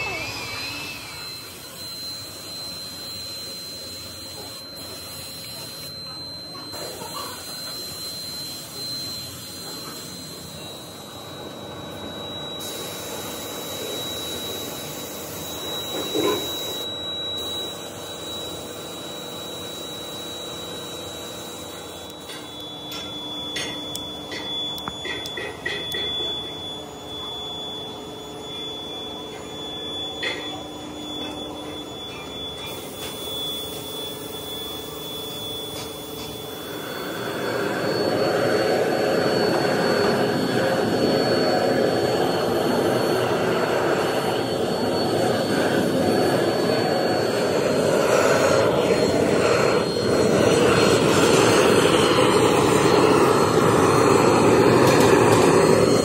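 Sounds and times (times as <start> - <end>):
machine hum with high whine: 0.0 - 56.0.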